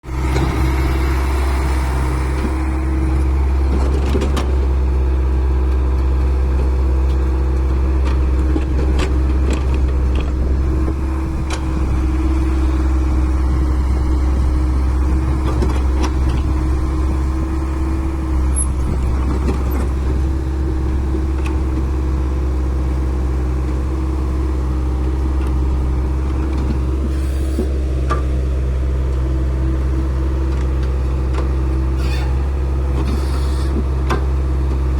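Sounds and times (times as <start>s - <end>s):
digging machine engine running: 0.0s - 34.9s.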